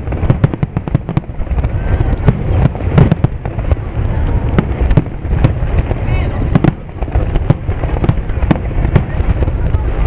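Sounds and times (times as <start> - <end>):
firework shells bursting: 0.0 - 10.0
low rumble of booms: 0.0 - 10.0.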